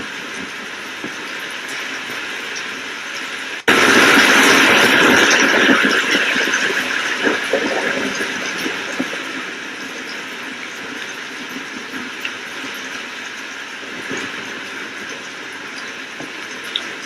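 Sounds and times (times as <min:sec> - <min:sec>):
steady rain: 0:00.0 - 0:17.0
thunderclap crackling and rumbling: 0:00.0 - 0:17.0.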